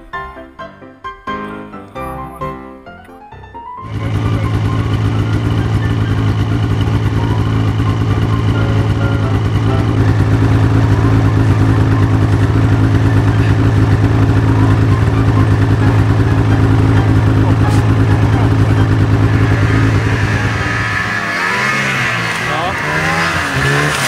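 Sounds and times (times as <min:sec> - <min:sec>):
snowmobile engine idling: 0:03.9 - 0:24.0.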